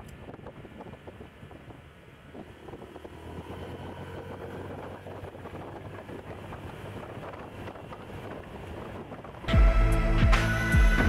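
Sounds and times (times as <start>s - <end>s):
wind buffeting microphone: 0.0s - 9.8s
motorcycle engine running: 0.0s - 11.0s.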